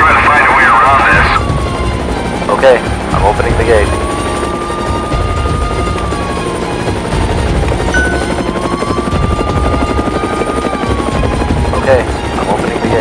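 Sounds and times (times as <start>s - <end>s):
electronic helicopter rotor chop: 1.1s - 13.0s.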